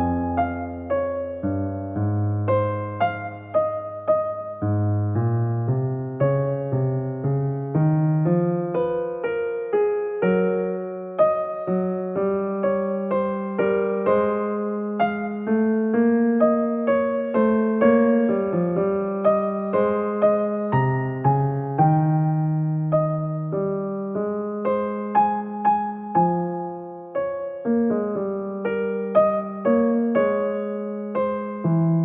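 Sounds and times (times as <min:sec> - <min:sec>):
gentle solo piano music: 0:00.0 - 0:32.0.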